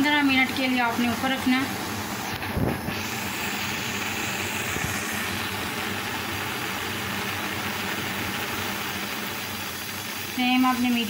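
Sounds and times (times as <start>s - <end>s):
gas burner hissing: 0.0s - 11.0s.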